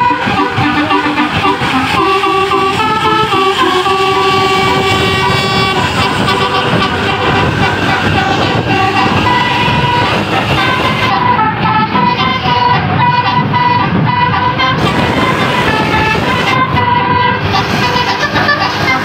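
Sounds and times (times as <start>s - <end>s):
multi-tone bus horn melody: 0.0s - 19.0s
vehicle rumble: 0.0s - 19.0s.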